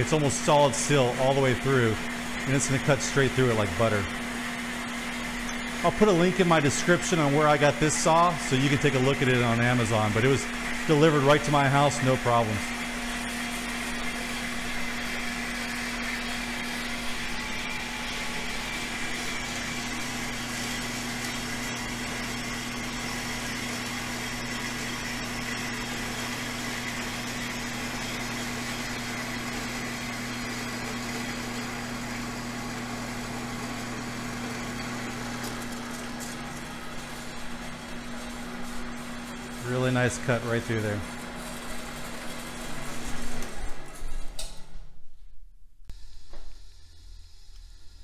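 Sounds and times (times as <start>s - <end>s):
bandsaw cutting steel tube: 0.0s - 43.7s.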